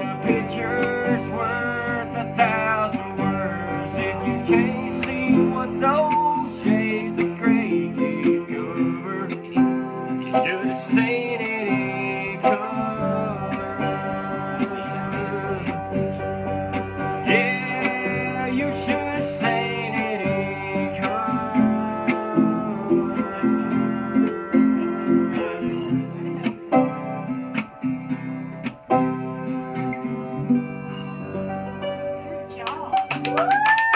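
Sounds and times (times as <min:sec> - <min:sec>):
acoustic guitar country song: 0:00.0 - 0:33.8.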